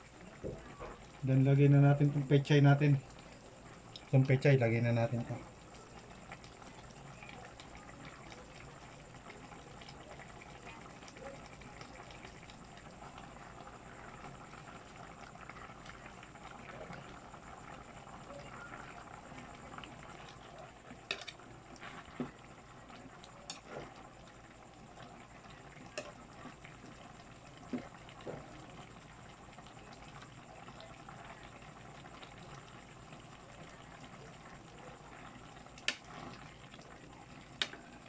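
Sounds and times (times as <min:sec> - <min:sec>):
stew bubbling: 0:00.0 - 0:38.0.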